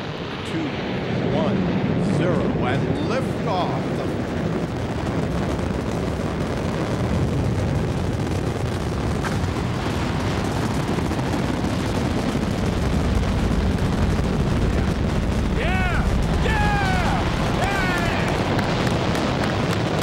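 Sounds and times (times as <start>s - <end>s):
rocket engines deep rumble: 0.0s - 20.0s.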